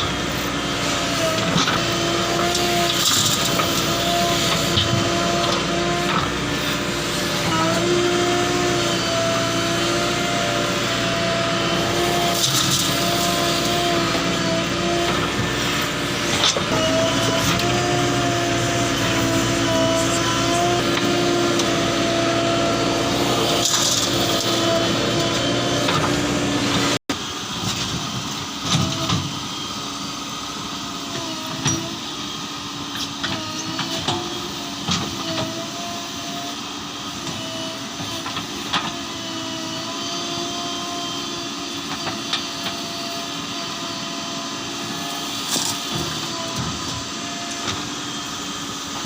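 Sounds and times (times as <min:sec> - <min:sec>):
diesel engine under load: 0:00.0 - 0:49.0.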